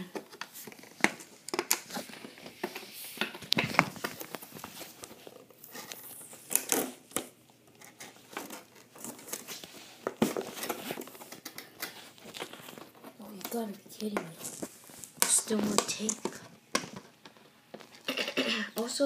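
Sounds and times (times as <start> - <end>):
packaging crinkling and rustling: 0.0 - 18.1.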